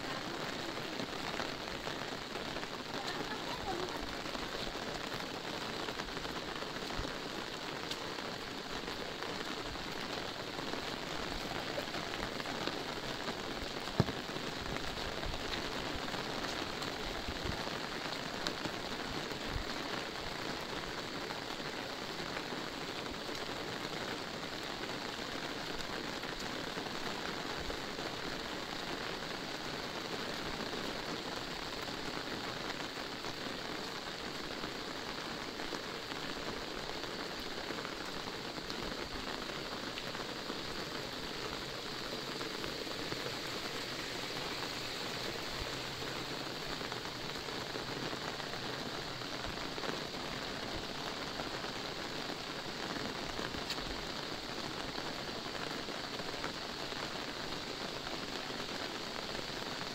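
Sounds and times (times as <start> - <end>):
rain on umbrella fabric: 0.0 - 59.9.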